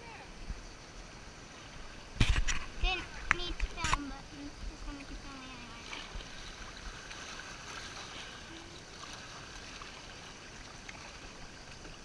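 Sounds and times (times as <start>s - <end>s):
river water rushing: 1.1s - 12.0s
water washing against kayak hull: 1.7s - 12.0s.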